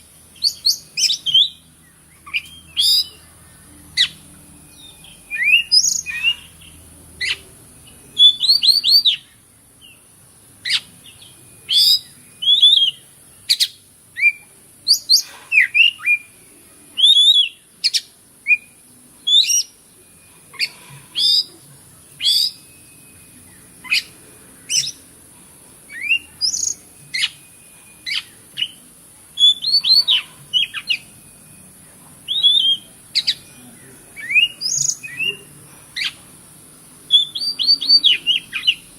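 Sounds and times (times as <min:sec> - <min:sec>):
steady high hiss: 0:00.0 - 0:38.9
bird whistling and chirping: 0:00.4 - 0:07.4, 0:08.1 - 0:10.0, 0:10.6 - 0:21.6, 0:22.2 - 0:25.1, 0:25.9 - 0:31.6, 0:32.2 - 0:36.2, 0:37.1 - 0:38.9.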